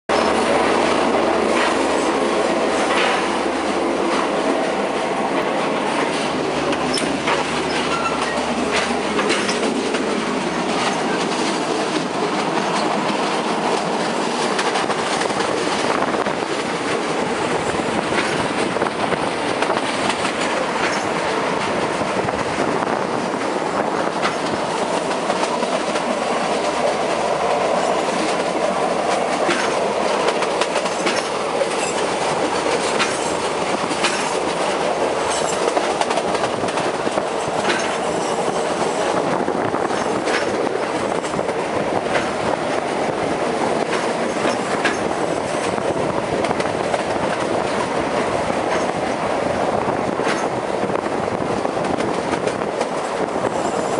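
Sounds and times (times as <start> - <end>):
wheels clacking over rail joints: 0.1 - 49.4, 50.0 - 53.9
rushing air: 0.1 - 53.9
train wheels rumbling on rails: 0.1 - 53.9.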